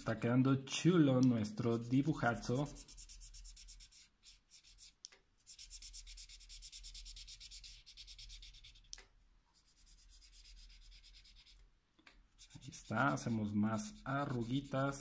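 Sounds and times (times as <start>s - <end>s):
marker rubbing on paper: 1.4s - 11.6s, 12.3s - 15.0s.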